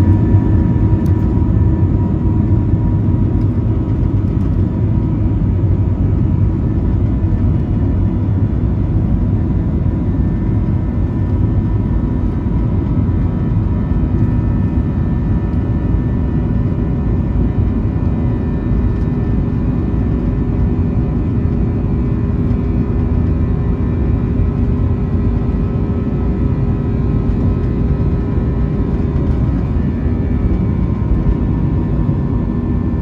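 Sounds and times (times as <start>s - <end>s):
jet cabin low rumble: 0.0s - 33.0s.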